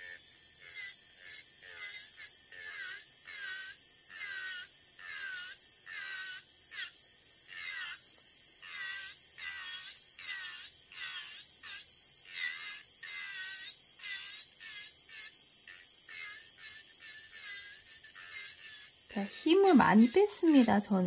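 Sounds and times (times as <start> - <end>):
electric nail drill whining: 0.0 - 21.0.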